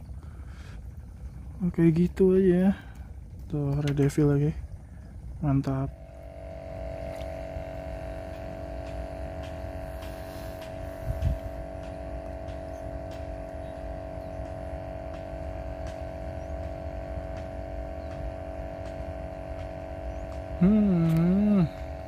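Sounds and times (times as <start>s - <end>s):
motor droning hum: 0.0s - 22.0s.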